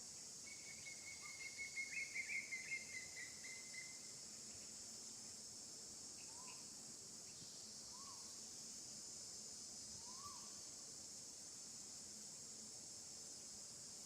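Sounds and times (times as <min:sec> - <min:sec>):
insect chorus chirring: 0:00.0 - 0:14.0.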